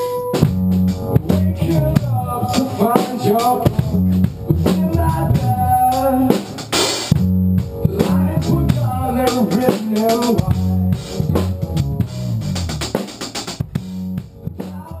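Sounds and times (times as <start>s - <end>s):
drum kit: 0.0s - 15.0s
electric bass guitar: 0.0s - 15.0s
keyboard: 0.0s - 15.0s.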